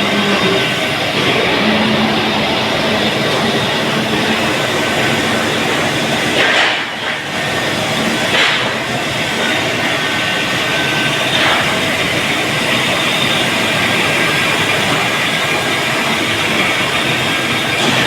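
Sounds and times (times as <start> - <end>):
pipe mill machinery din: 0.0 - 18.0.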